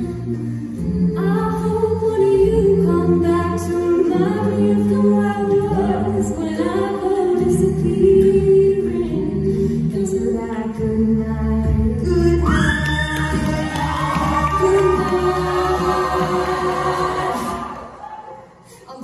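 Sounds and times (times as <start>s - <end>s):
a cappella group singing: 0.0s - 18.6s.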